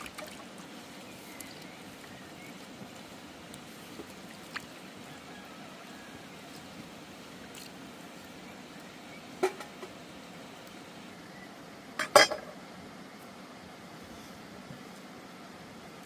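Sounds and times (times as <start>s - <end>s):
low background hiss: 0.0s - 16.0s.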